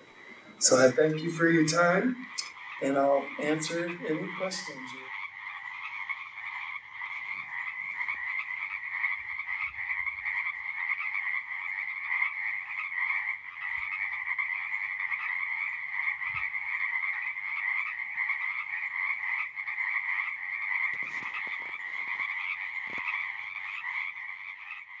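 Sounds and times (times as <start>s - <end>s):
chorus of frogs calling: 0.0s - 25.0s.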